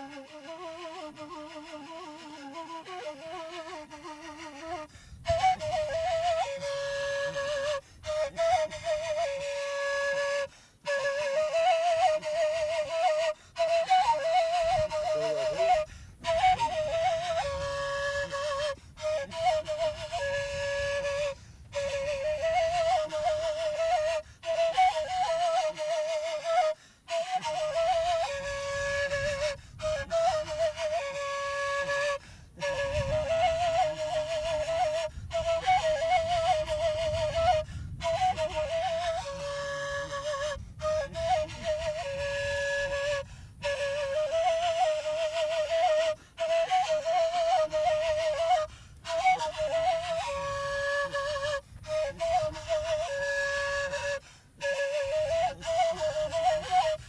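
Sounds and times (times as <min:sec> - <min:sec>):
wind instrument trilled melody: 0:00.0 - 0:57.0.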